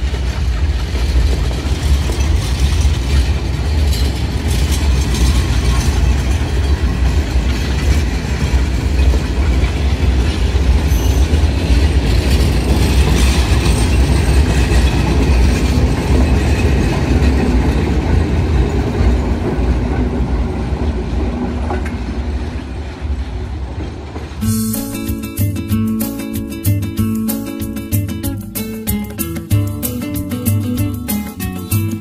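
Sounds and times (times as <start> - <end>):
train coaches rumbling past: 0.0 - 32.0
wheels clattering over rail joints: 0.0 - 32.0.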